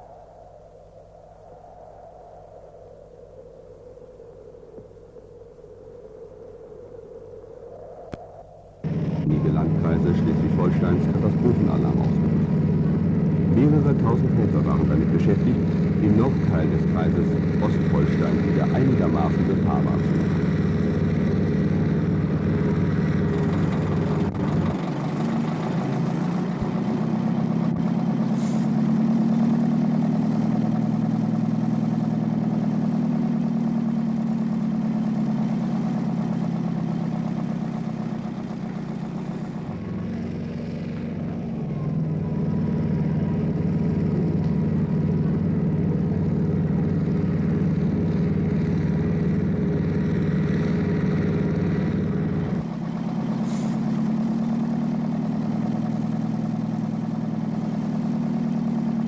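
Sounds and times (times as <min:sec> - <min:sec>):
heavy vehicle engines running: 0:08.8 - 0:59.0.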